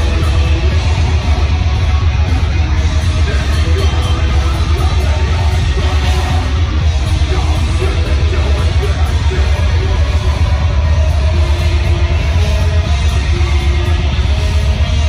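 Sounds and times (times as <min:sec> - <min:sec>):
bass guitar: 0:00.0 - 0:15.0
distorted electric guitars: 0:00.0 - 0:15.0
drums: 0:00.0 - 0:15.0.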